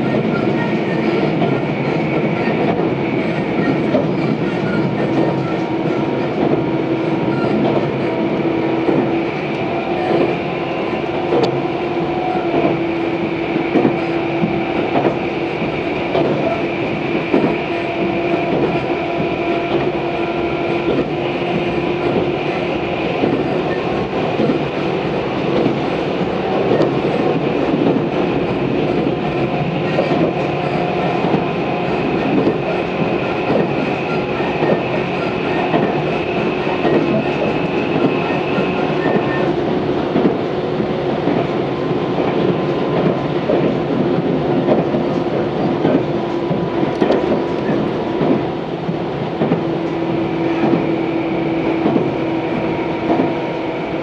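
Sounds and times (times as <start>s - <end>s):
electric train hum and whine: 0.0s - 54.0s.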